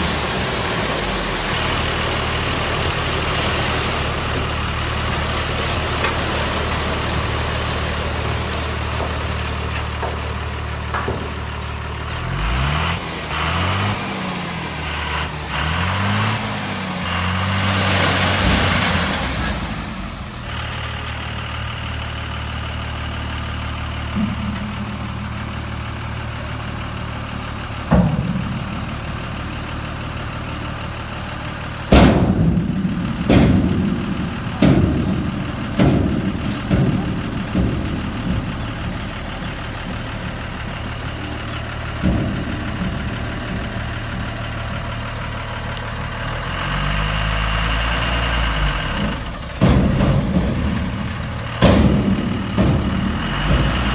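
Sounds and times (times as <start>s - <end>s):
sharp engine knocks: 0.0s - 14.0s, 17.2s - 53.9s
engine idling hum: 0.0s - 53.9s.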